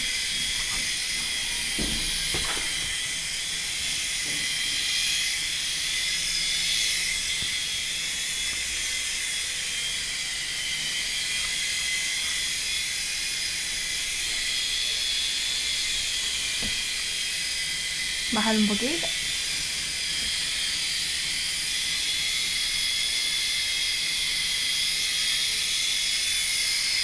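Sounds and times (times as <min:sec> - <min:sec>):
toy helicopter motor whirring: 0:00.0 - 0:27.0.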